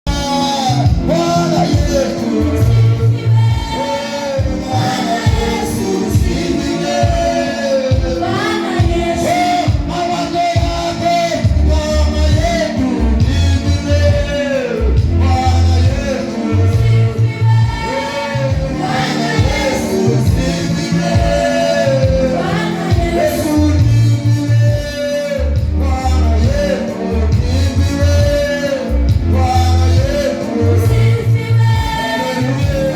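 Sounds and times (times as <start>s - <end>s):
band with steady beat: 0.0s - 32.9s
worship singing: 0.0s - 32.9s.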